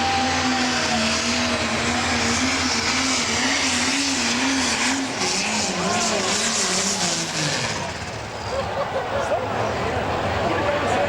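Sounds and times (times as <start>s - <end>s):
diesel tractor engine running hard: 0.0s - 11.0s.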